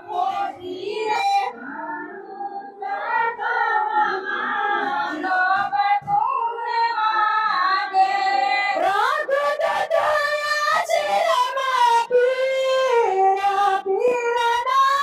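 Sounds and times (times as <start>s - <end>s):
women singing: 0.0s - 15.0s.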